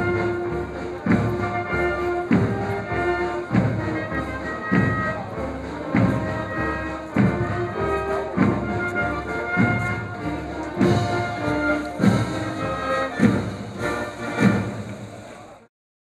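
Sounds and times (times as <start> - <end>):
band playing march: 0.0 - 15.7.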